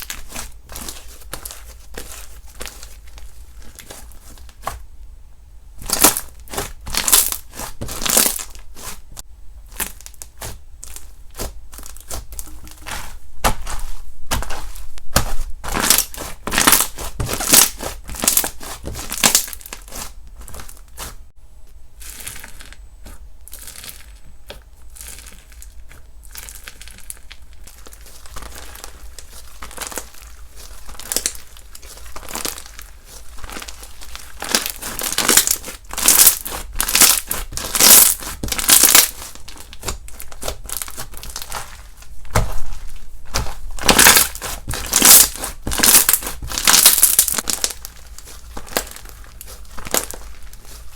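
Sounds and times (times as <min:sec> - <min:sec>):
slime crackling and crinkling: 0:00.0 - 0:05.0, 0:05.8 - 0:21.4, 0:22.0 - 0:50.9.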